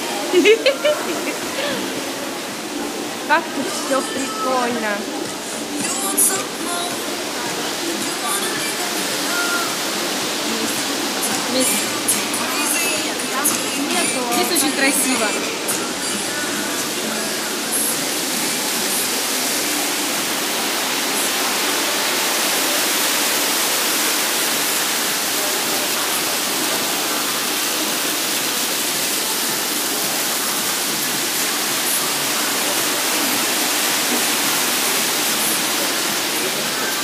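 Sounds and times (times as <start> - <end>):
fountain water splashing into pool: 0.0 - 37.0.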